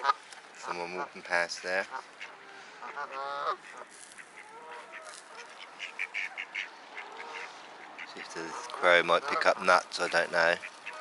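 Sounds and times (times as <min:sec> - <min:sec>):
geese and ducks calling: 0:00.0 - 0:11.0.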